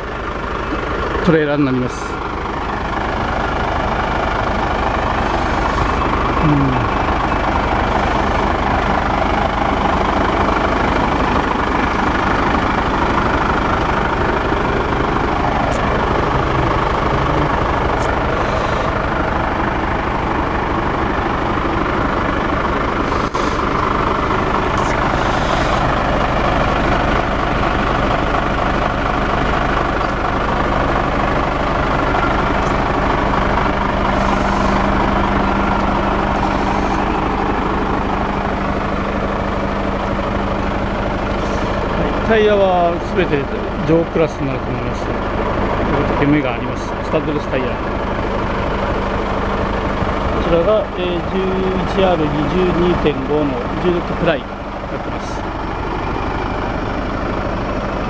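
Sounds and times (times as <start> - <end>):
truck diesel engine idling: 0.0 - 58.0.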